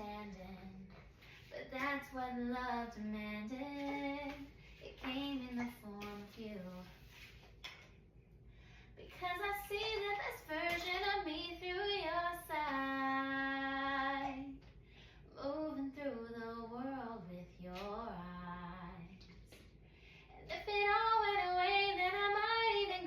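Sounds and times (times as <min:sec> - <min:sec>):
woman singing unaccompanied: 0:00.0 - 0:07.0, 0:09.0 - 0:14.6, 0:15.4 - 0:19.2, 0:20.4 - 0:23.0.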